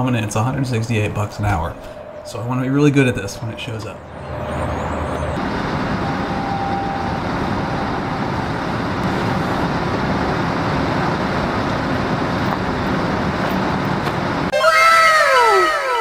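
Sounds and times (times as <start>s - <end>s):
loader engine running: 0.0s - 14.5s.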